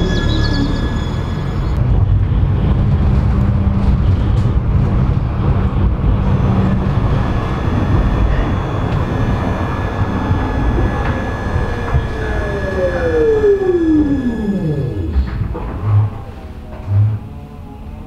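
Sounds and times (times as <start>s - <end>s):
tram wheels rumbling on rails: 0.0s - 17.4s
low hum: 0.0s - 18.0s.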